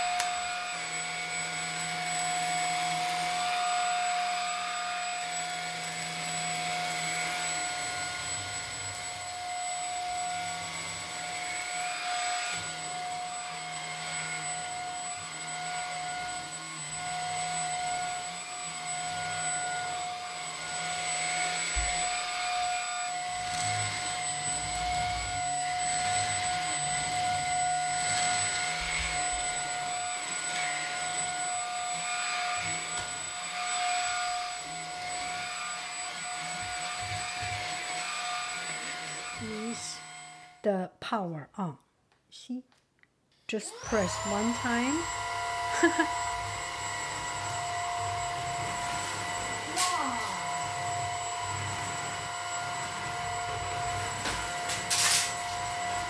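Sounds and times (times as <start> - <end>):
handheld vacuum whining: 0.0 - 40.6, 43.5 - 56.0.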